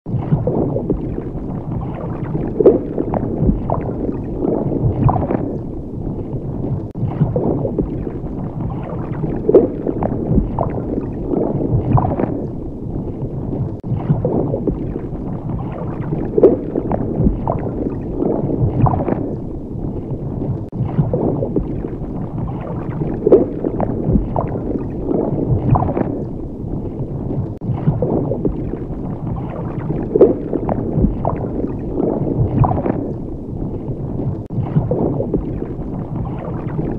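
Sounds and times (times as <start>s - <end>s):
underwater gurgling water: 0.1s - 36.9s.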